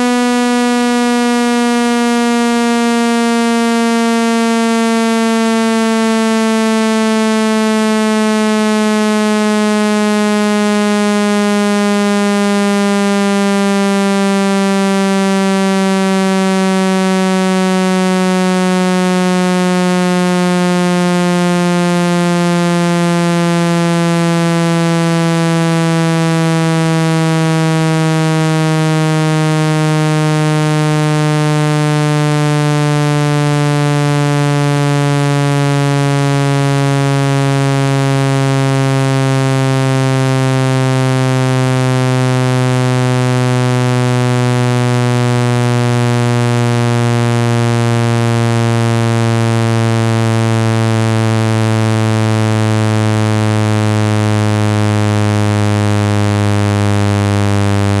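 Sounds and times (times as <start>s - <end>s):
buzzy low tone gliding downward: 0.0s - 58.0s.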